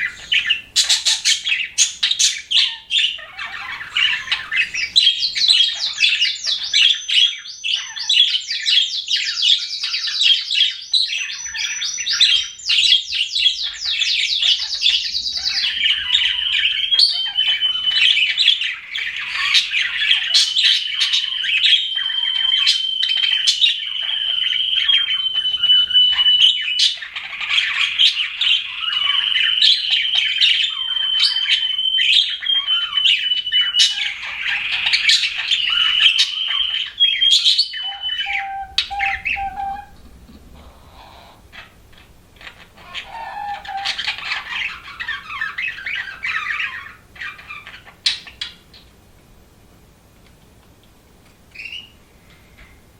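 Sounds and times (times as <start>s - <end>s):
budgies chirping and warbling: 0.0s - 48.9s, 51.5s - 52.8s.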